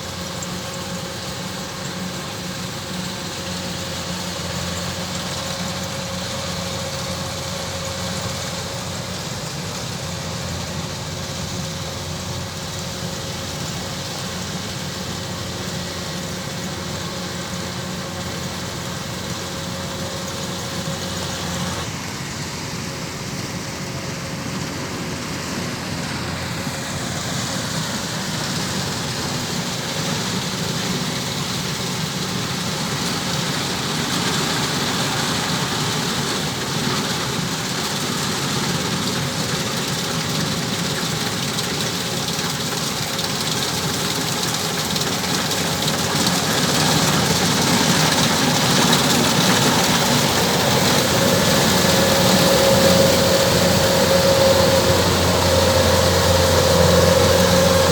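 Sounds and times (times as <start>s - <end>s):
combine harvester diesel engine drone: 0.0s - 57.9s.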